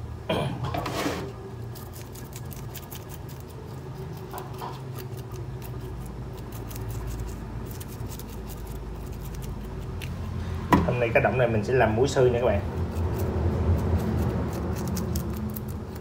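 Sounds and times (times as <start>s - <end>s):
steady low hum: 0.0s - 16.0s
fish scales being scraped: 0.8s - 10.7s, 12.6s - 16.0s.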